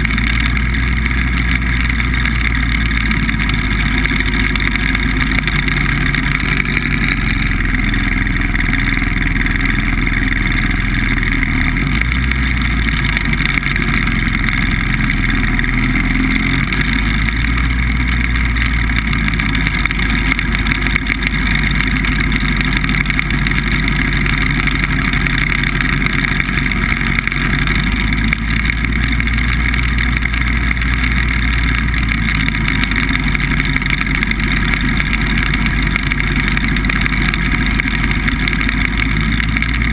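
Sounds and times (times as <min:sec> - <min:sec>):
hovercraft engine and fan running: 0:00.0 - 0:39.9.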